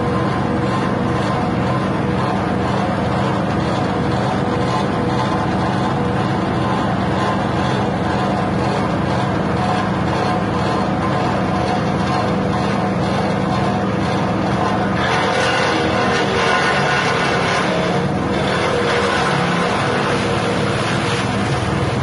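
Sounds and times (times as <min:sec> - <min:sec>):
grass chopper petrol engine running: 0:00.0 - 0:22.0.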